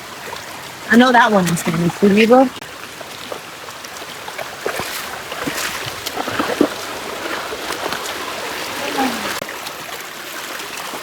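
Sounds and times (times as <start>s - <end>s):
river water gurgling over rocks: 0.0s - 11.0s
small water splashes: 0.0s - 11.0s.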